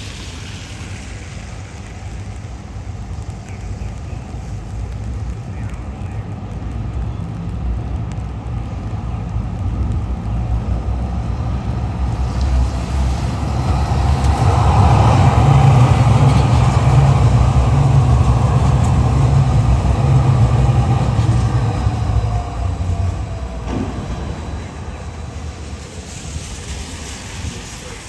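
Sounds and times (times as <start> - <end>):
large vehicle engine rumble: 0.0 - 28.0.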